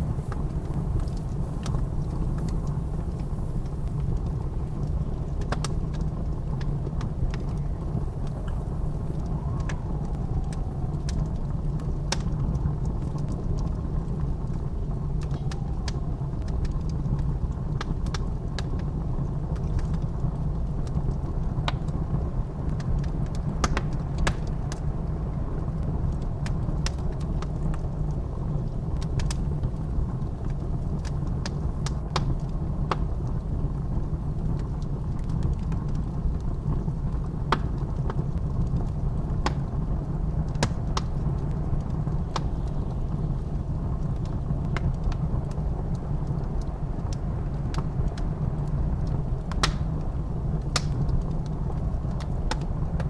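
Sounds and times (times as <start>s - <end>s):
blizzard wind rumbling: 0.0s - 53.0s
wood fire crackling and popping: 0.0s - 53.0s.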